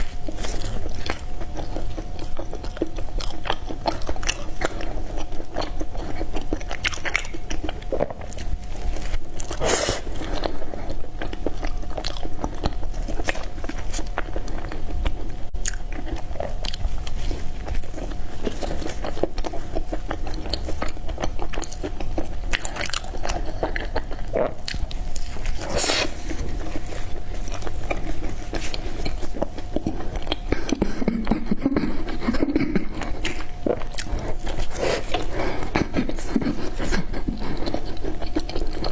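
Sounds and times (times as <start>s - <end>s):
chewing bread: 0.0s - 38.9s.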